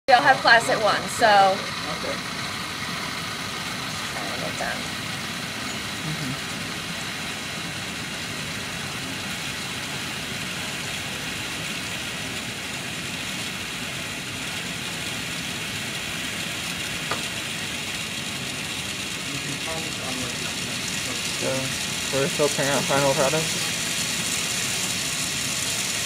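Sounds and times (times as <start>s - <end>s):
lab equipment hissing: 0.1s - 26.0s.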